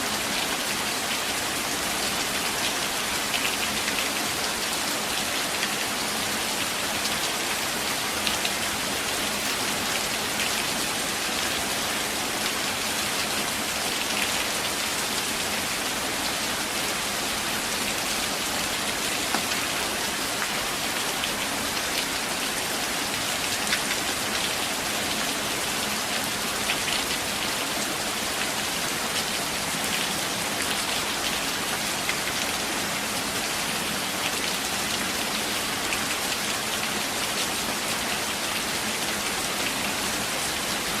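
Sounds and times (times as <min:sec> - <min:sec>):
rain falling on leaves: 0:00.0 - 0:41.0.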